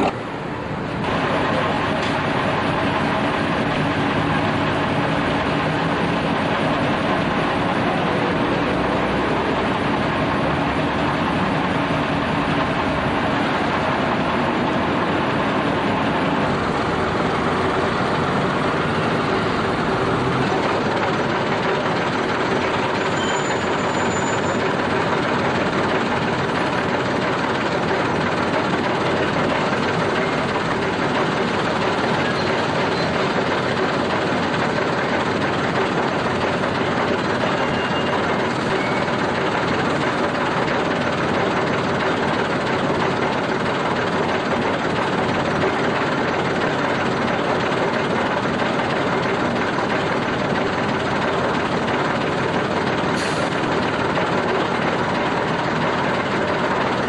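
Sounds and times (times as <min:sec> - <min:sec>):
bus diesel engines idling: 0:00.0 - 0:57.0.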